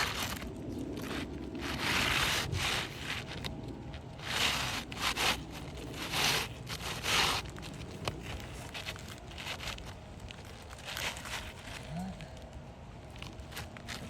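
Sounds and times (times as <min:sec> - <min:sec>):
shingles scraping and rustling: 0:00.0 - 0:14.0.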